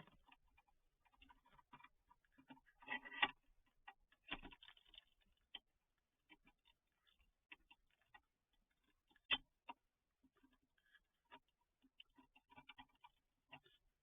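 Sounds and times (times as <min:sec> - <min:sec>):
raccoons eating with clicks and crunches: 0:00.0 - 0:14.0.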